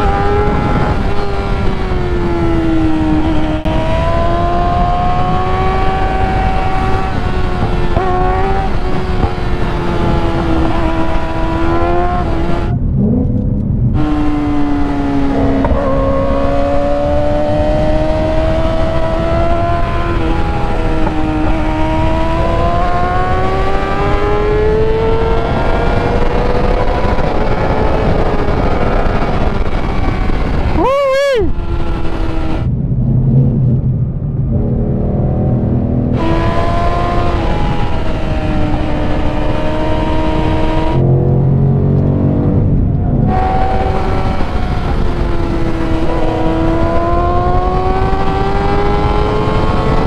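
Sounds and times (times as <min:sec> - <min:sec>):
engine at high revs: 0:00.0 - 0:30.8, 0:31.5 - 0:32.7, 0:34.5 - 0:50.0
wind rushing: 0:00.0 - 0:50.0.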